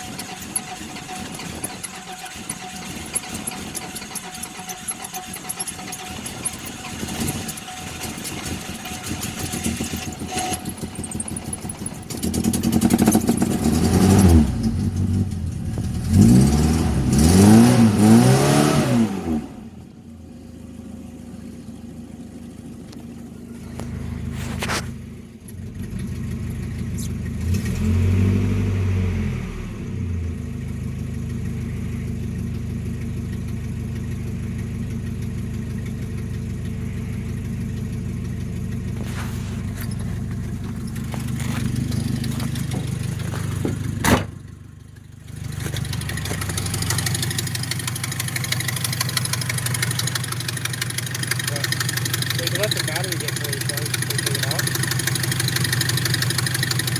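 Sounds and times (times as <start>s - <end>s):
pickup engine running: 0.0s - 56.9s.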